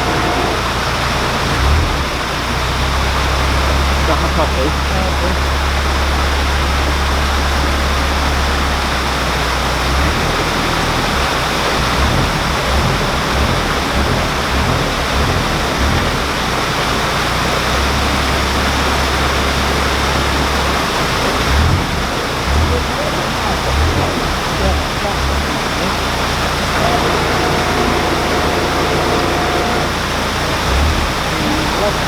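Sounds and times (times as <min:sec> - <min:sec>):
water rushing through lock paddles: 0:00.0 - 0:32.0.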